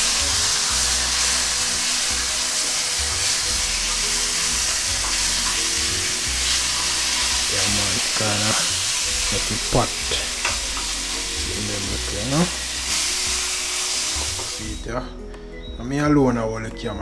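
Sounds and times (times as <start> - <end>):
fish sizzling in a frying pan: 0.0 - 14.9.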